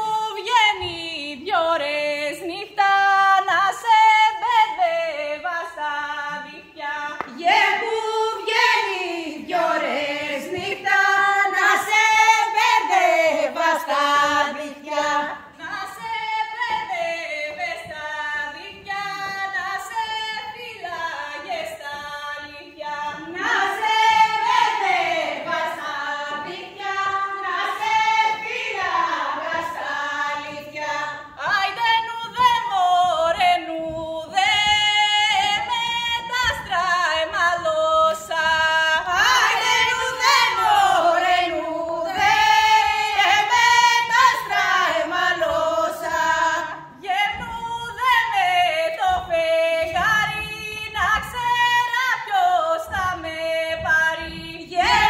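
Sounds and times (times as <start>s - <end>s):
woman singing folk song: 0.0s - 24.6s, 29.4s - 55.0s
voices singing along: 2.0s - 55.0s.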